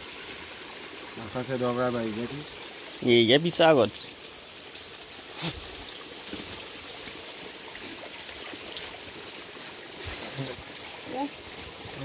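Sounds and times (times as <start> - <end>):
forest creek trickling: 0.0 - 12.0.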